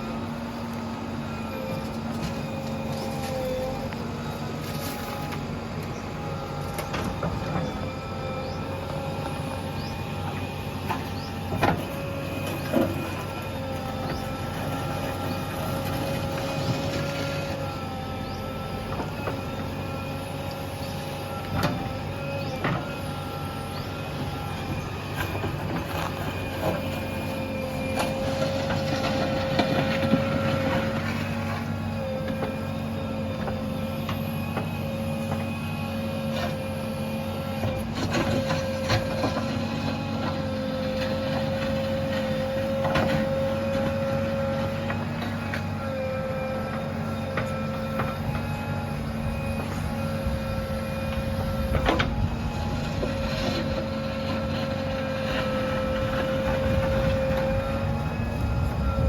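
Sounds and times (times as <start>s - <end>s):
diesel engine running: 0.0s - 59.0s
hydraulic whine: 0.0s - 59.0s.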